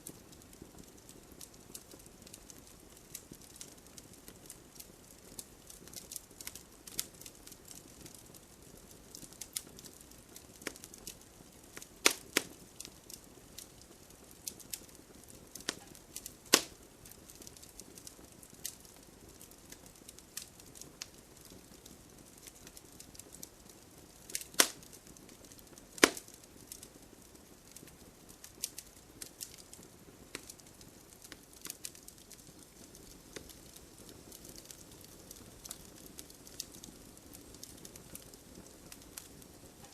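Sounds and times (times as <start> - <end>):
campfire crackling and popping: 0.0 - 39.9
faint steady hiss: 0.0 - 39.9.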